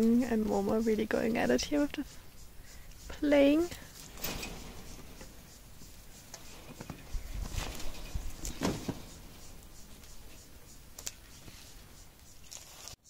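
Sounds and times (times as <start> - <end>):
low bumps: 0.0 - 12.4
faint rustling: 0.0 - 13.0.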